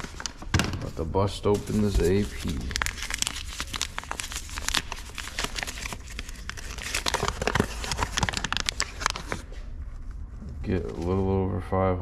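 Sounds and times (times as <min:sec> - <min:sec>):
paper flour bag crinkling: 0:00.0 - 0:09.7.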